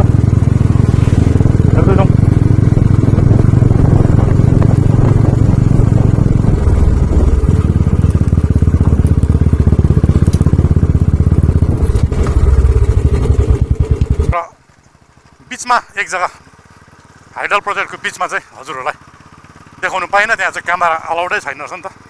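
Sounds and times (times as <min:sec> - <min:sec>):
motorcycle engine under load: 0:00.0 - 0:22.0.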